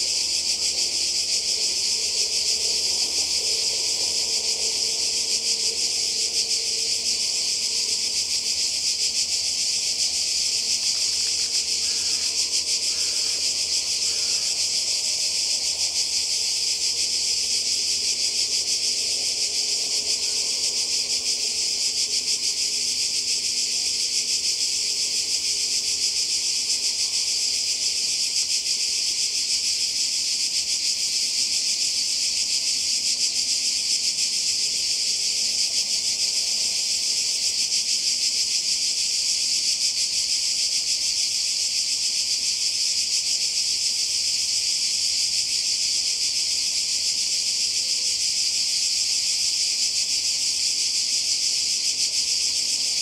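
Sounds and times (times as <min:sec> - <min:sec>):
cicadas shrilling: 0:00.0 - 0:53.0.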